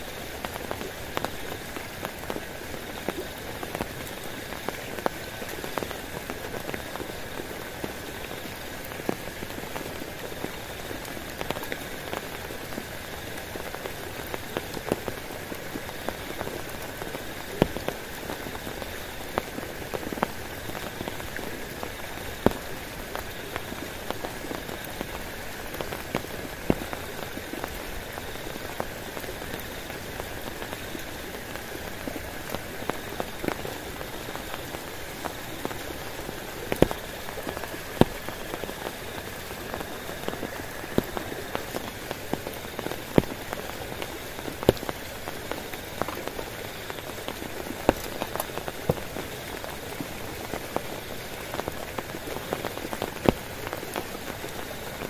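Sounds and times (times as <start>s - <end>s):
heavy rain on tarp and tent: 0.0s - 55.0s.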